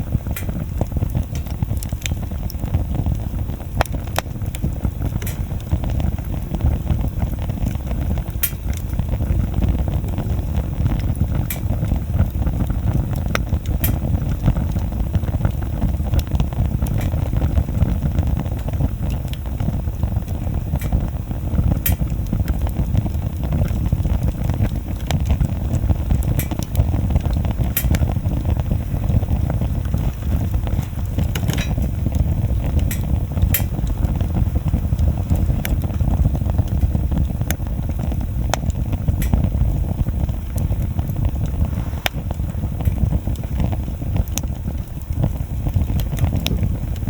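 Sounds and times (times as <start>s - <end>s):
bonfire crackling and popping: 0.0s - 47.0s
low fire rumble: 0.0s - 47.0s.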